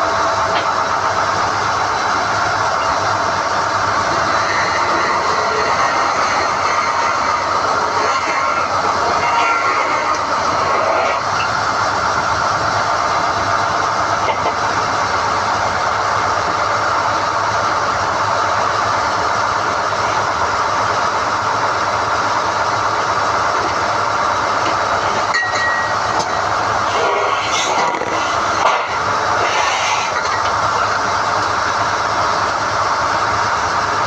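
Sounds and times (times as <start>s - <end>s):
drilling rig running: 0.0s - 34.0s.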